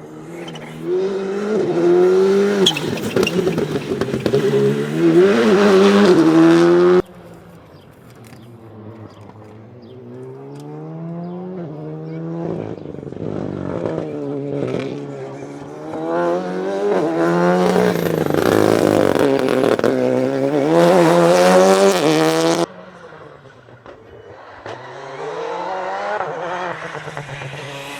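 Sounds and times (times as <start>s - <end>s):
rally car engine revving: 0.0s - 7.1s, 8.3s - 27.9s.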